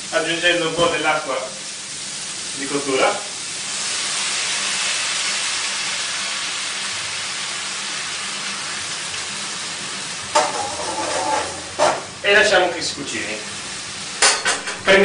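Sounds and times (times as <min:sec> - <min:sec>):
frying pan hissing with steam: 0:00.0 - 0:15.0.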